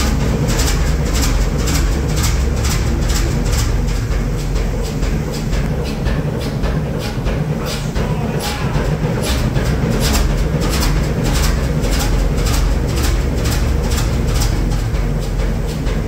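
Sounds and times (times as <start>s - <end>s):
diesel engine running with knocks: 0.0s - 16.0s.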